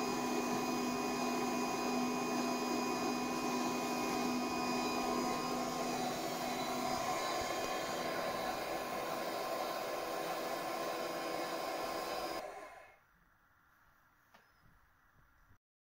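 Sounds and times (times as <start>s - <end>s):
machine motor humming with whine: 0.0s - 13.0s.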